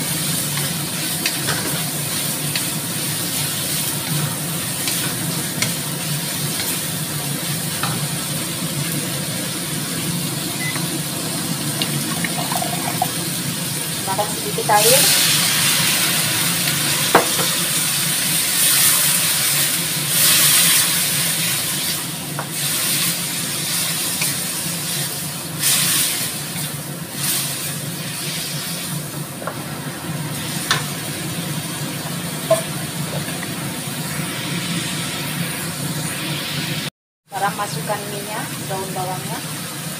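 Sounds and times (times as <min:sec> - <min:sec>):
vegetables sizzling in a wok: 0:00.0 - 0:39.9.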